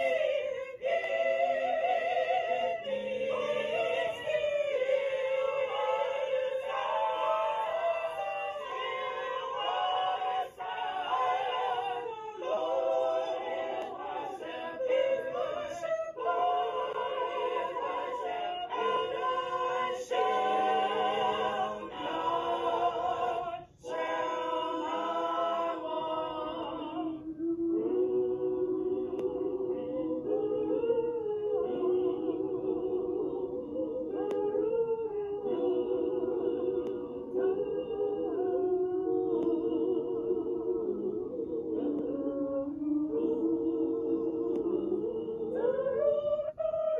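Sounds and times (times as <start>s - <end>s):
mixed choir singing: 0.0s - 46.9s.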